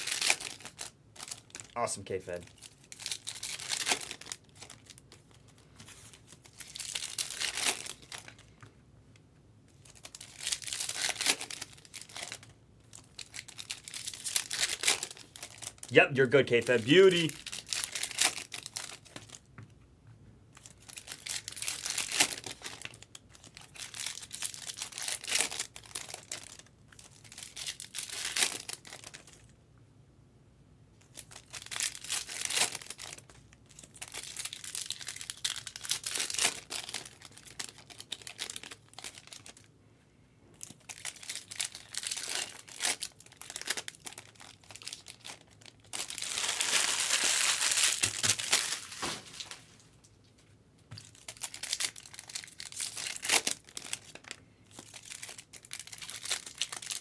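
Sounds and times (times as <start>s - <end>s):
foil wrappers tearing and crinkling: 0.0s - 1.8s, 2.4s - 8.5s, 9.8s - 19.4s, 20.6s - 29.4s, 31.1s - 39.7s, 40.6s - 49.8s, 50.9s - 57.0s.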